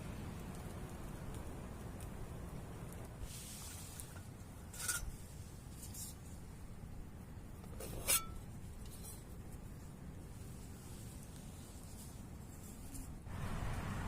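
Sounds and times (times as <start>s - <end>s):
low rain noise: 0.0s - 14.0s.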